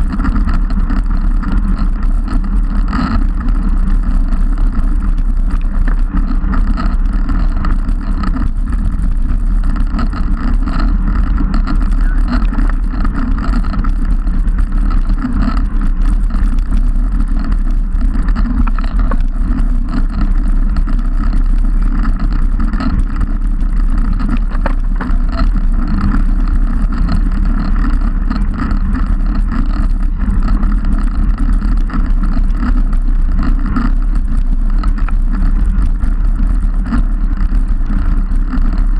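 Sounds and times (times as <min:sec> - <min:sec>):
wind buffeting microphone: 0:00.0 - 0:38.4
tyre and road rumble: 0:00.0 - 0:38.9.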